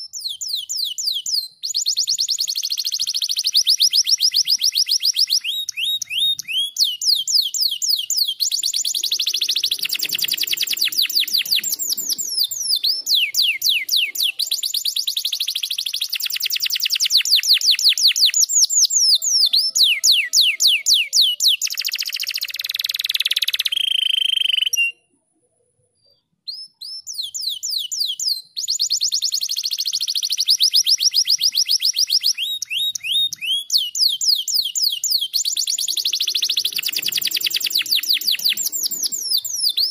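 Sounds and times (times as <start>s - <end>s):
canary singing trills: 0.0s - 25.1s, 26.0s - 39.9s.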